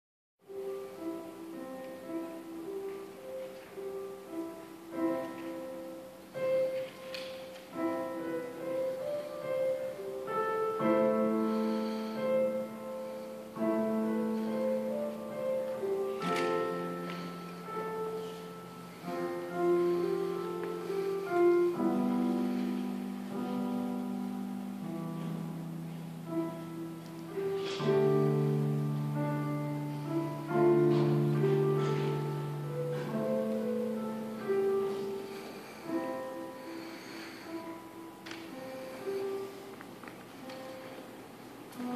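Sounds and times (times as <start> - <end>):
slow solo piano: 0.4 - 41.9.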